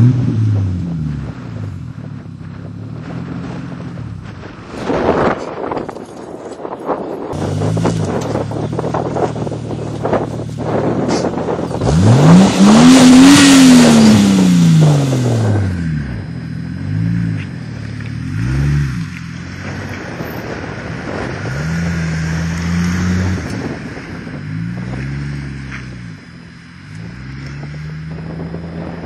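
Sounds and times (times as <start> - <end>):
car engine revving: 0.0 - 5.6, 7.3 - 29.0.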